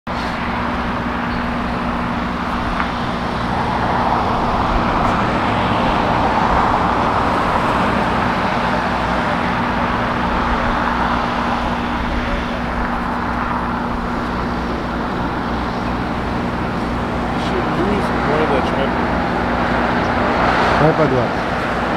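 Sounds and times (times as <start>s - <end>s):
jet aircraft noise rushing: 0.1s - 21.9s
steady low hum: 0.1s - 21.9s.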